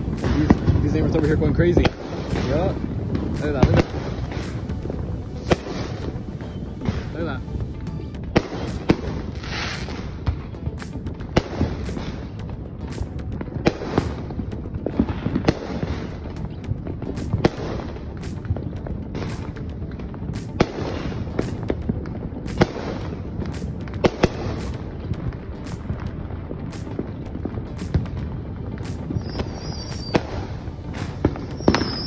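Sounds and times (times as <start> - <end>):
fireworks rumbling and crackling: 0.0 - 32.0
sharp firework bangs: 0.0 - 32.0.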